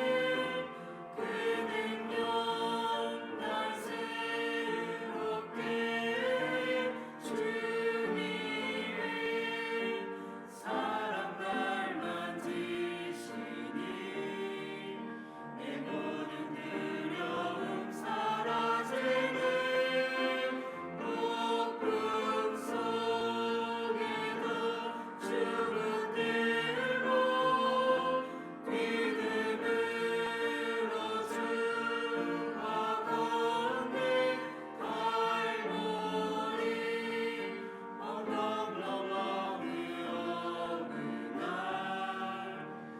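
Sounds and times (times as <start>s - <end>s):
church choir singing: 0.0s - 42.9s.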